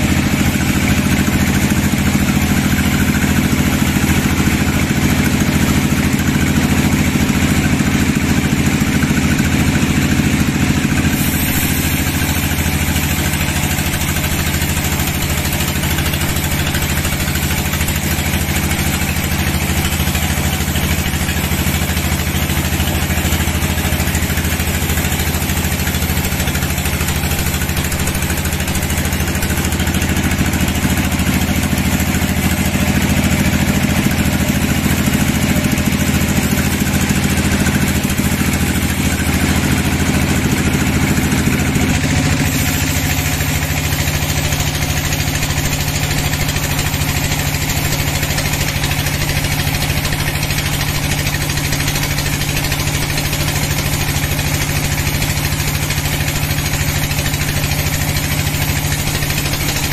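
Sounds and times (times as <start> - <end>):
band saw cutting log: 8.7 - 59.9.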